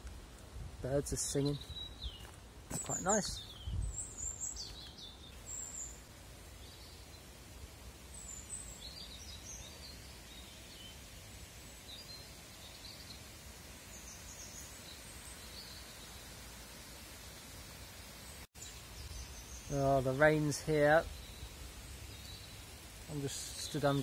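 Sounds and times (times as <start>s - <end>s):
faint outdoor hiss and rumble: 0.0s - 24.0s
small birds singing: 0.8s - 24.0s.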